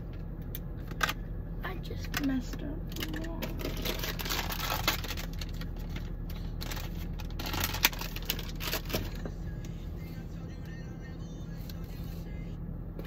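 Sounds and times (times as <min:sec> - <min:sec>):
car hum: 0:00.0 - 0:13.0.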